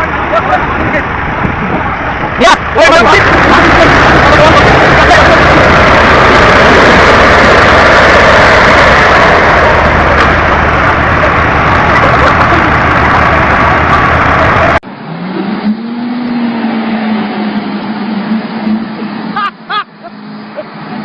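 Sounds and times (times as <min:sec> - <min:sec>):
loud dense vehicle noise: 0:00.0 - 0:21.0
steady engine hum: 0:00.0 - 0:21.0.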